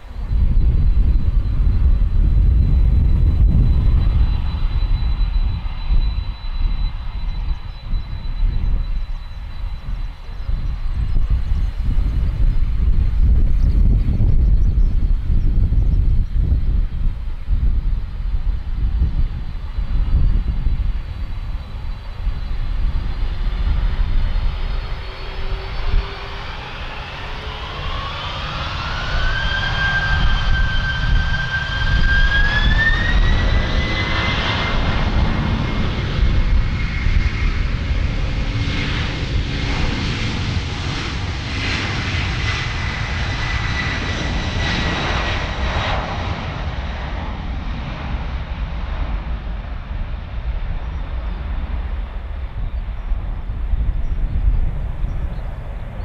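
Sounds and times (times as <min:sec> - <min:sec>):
deep engine rumble: 0:00.0 - 0:56.0
jet engine whine: 0:00.0 - 0:56.0.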